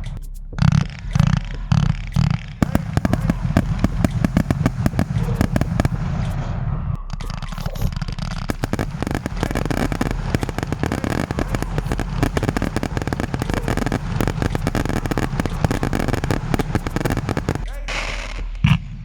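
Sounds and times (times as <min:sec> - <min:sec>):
fireworks crackling and banging: 0:00.6 - 0:06.6, 0:07.3 - 0:19.0.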